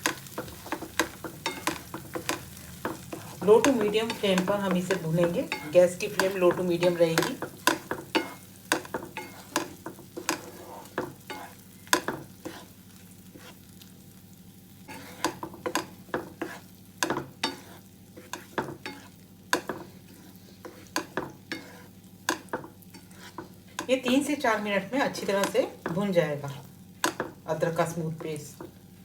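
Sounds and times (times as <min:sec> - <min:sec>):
spatula scraping and knocking pan: 0:00.0 - 0:13.8, 0:14.8 - 0:27.4
paste sizzling in a pan: 0:00.0 - 0:29.0.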